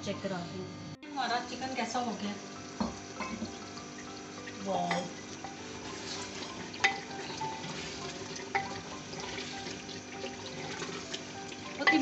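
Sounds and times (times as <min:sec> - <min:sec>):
curry sizzling and bubbling: 0:01.1 - 0:12.0.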